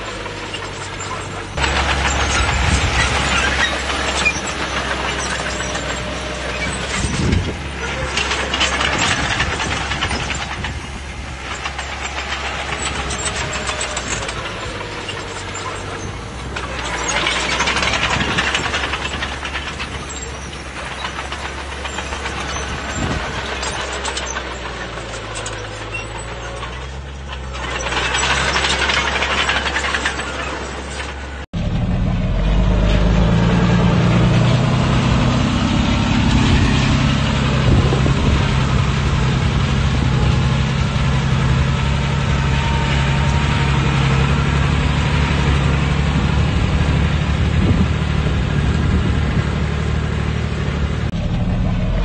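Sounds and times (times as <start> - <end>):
bulldozer diesel engine drone: 0.0 - 52.0
clanking and scraping: 0.0 - 52.0.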